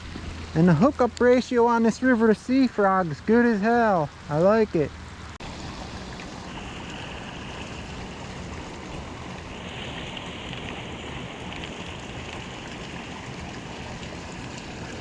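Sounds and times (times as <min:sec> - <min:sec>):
runoff water pouring into pond: 0:00.0 - 0:15.0.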